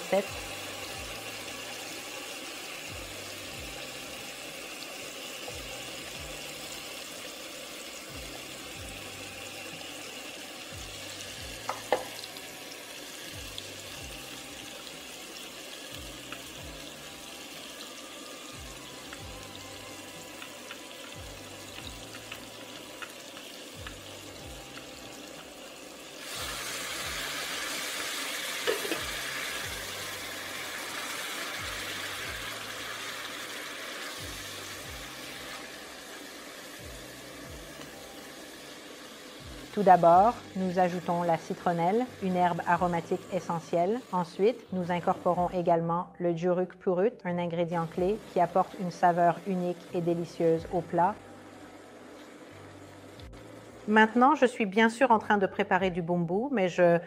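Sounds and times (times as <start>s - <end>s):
spice paste sizzling in oil: 0.0s - 45.7s, 47.6s - 55.3s.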